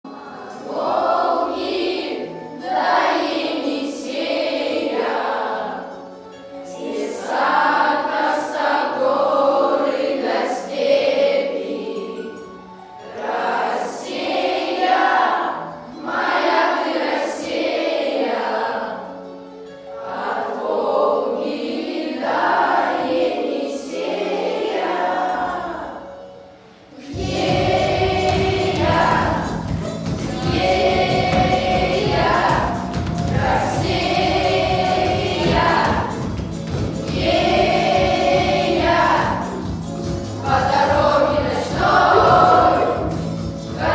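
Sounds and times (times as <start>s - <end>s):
children's choir singing: 0.0s - 43.9s.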